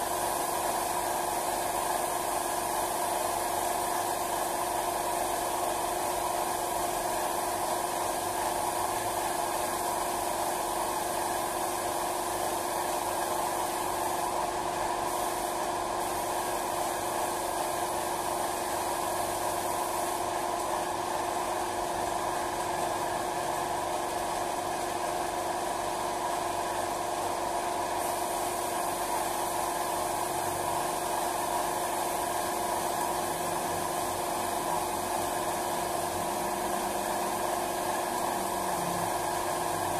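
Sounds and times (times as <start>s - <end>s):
paint spray gun hissing: 0.0s - 39.9s.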